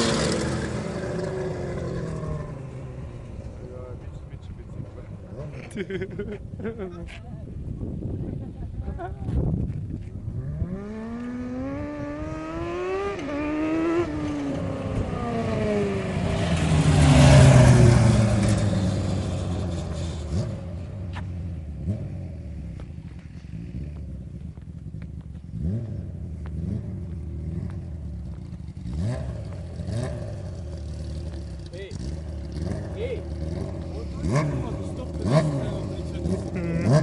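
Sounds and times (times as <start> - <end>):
go-kart engine accelerating: 0.0 - 6.3, 10.2 - 24.3, 25.3 - 37.0.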